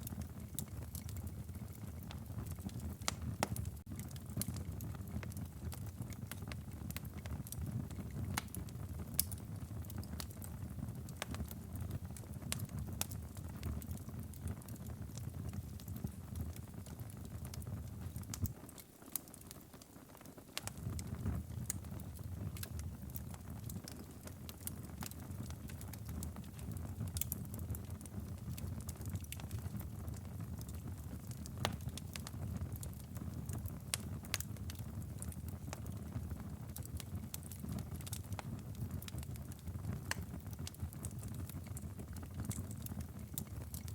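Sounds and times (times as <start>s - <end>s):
fireplace fire crackling and popping: 0.0s - 43.9s.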